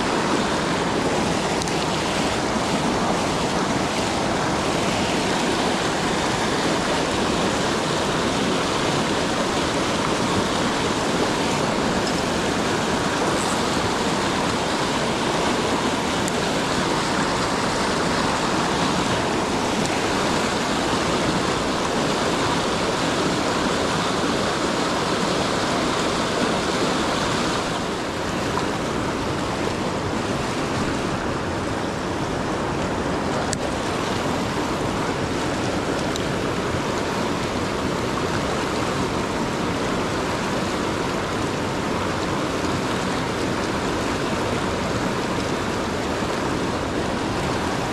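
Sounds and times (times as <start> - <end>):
river rapids rushing over boulders: 0.0 - 47.9.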